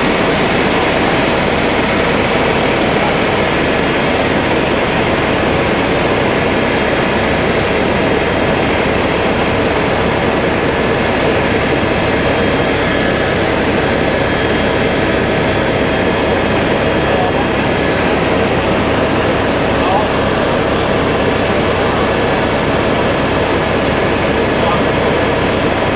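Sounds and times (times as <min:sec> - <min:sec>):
small aircraft engine drone: 0:00.0 - 0:25.9.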